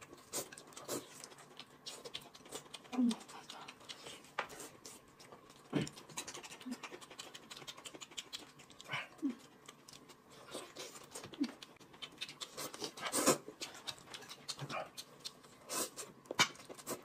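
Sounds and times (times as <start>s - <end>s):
wet chewing and lip-smacking: 0.0s - 17.0s.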